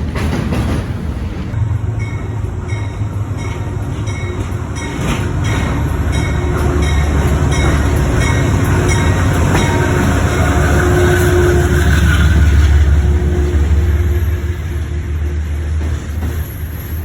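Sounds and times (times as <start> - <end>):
train rumbling past: 0.0 - 17.0
wheels click-clacking on rail joints: 0.0 - 17.0.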